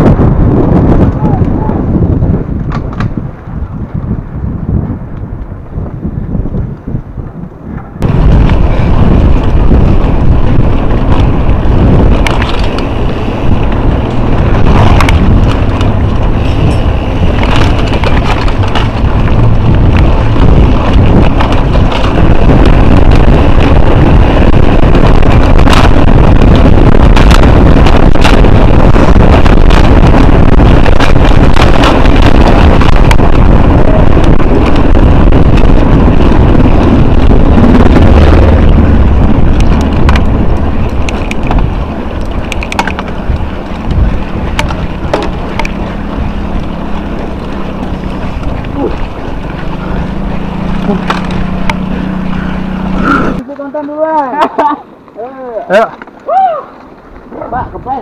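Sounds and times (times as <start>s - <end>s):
bike rattling over rough ground: 0.0s - 58.0s
wind buffeting microphone: 0.0s - 58.0s.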